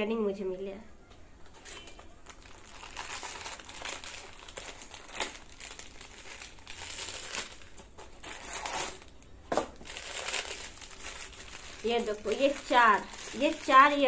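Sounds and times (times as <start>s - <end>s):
plastic wrapping crinkling: 1.4s - 14.0s.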